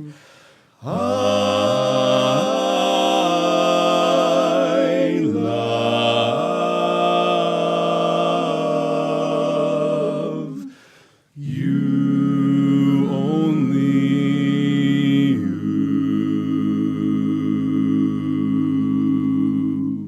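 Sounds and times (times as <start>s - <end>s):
men singing a cappella: 0.8s - 20.0s.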